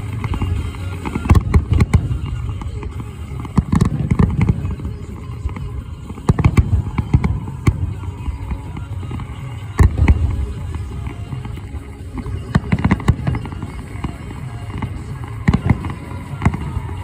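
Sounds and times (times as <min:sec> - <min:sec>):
fireworks bangs and booms: 0:00.0 - 0:17.0.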